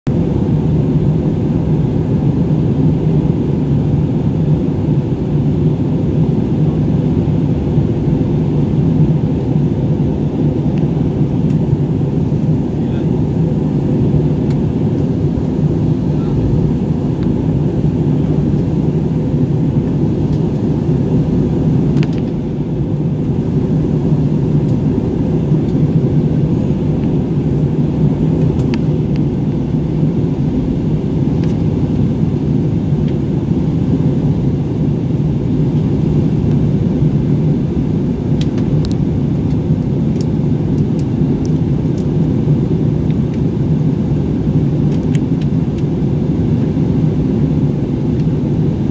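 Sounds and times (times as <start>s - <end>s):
airliner cabin engine drone: 0.1s - 48.9s.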